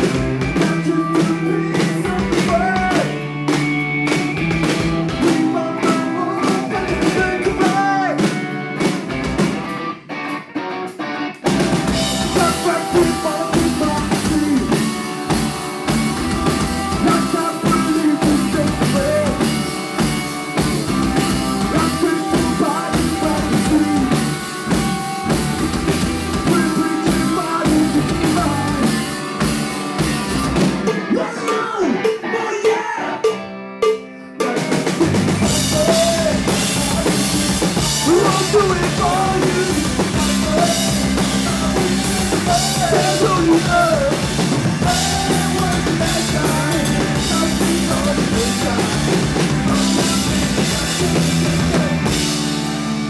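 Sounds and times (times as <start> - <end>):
punk rock band playing: 0.0 - 53.0.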